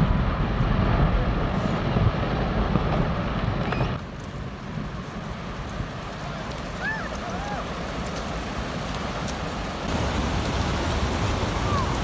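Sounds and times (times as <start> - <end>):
wave: 0.0 - 12.0.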